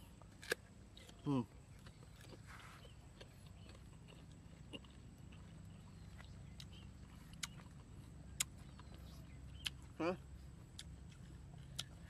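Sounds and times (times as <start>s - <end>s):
crunchy fruit being chewed: 0.0s - 12.0s
low background rumble: 0.0s - 12.0s.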